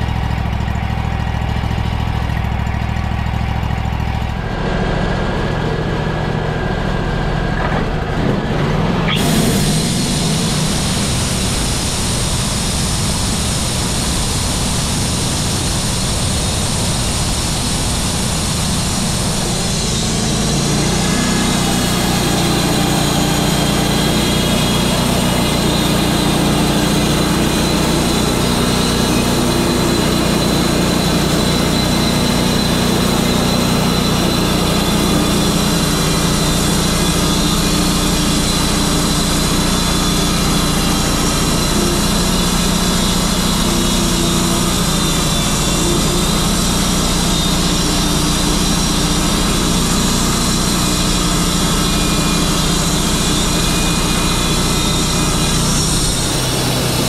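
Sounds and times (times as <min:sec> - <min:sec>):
bandsaw mill sawing log: 0:00.0 - 0:57.0.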